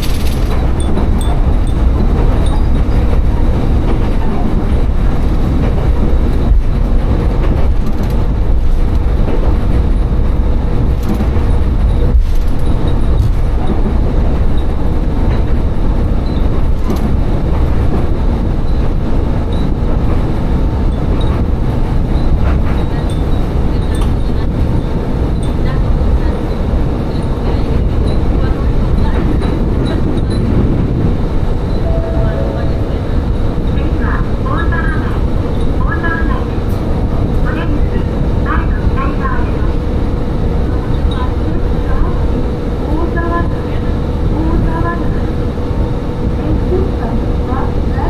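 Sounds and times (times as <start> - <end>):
diesel railcar rumbling: 0.0 - 48.0.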